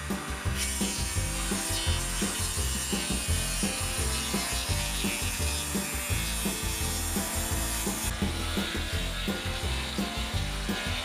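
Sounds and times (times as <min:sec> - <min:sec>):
sawmill blade sawing wood: 0:00.0 - 0:11.0.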